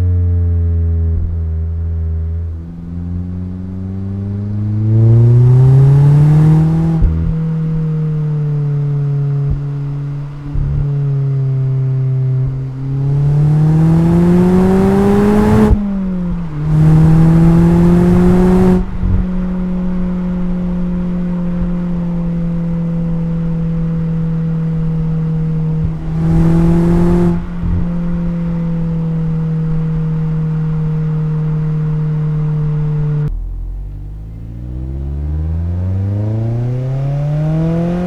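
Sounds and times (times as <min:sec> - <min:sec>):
car engine and exhaust accelerating: 0:00.0 - 0:38.0.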